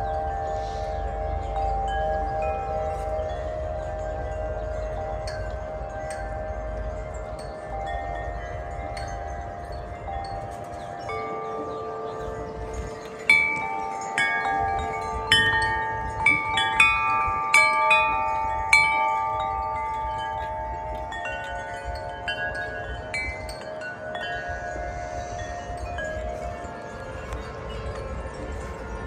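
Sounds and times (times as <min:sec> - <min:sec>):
wind chime ringing: 0:00.0 - 0:29.0
wind rumble: 0:00.0 - 0:29.0.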